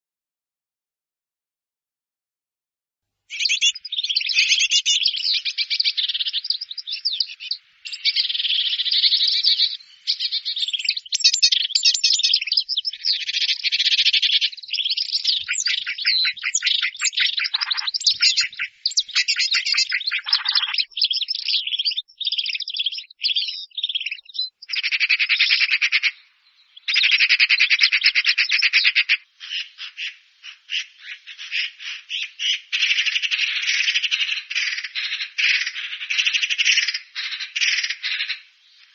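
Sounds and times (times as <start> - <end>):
songbird singing trills: 3.3 - 38.9.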